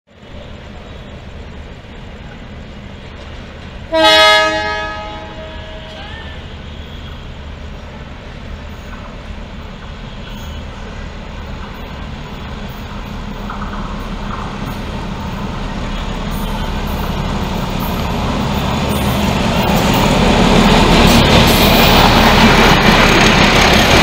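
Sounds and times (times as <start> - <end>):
diesel locomotive engine rumble: 0.1 - 24.0.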